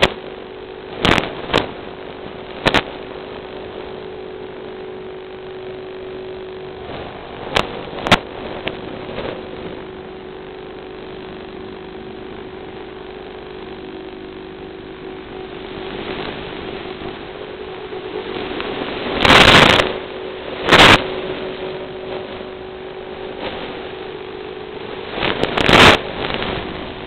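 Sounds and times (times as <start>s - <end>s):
electric motors and propellers humming: 0.0s - 27.0s.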